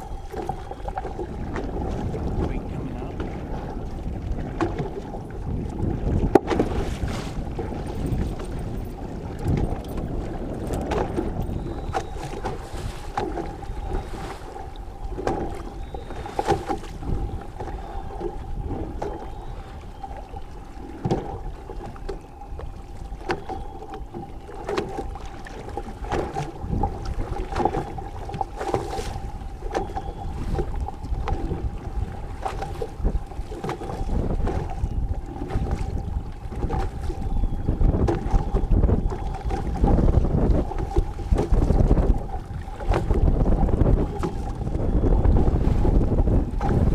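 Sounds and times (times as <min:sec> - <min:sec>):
boat motor hum: 0:00.0 - 0:46.9
wind buffeting microphone: 0:00.0 - 0:46.9.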